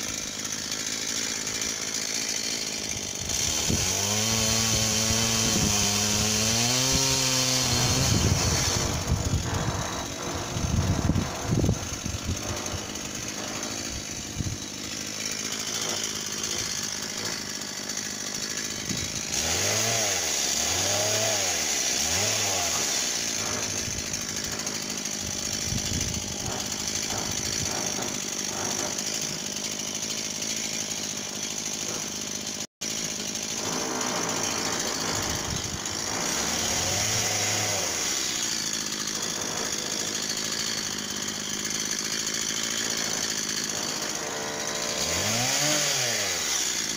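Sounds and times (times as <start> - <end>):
chainsaw running and revving: 0.0 - 46.9.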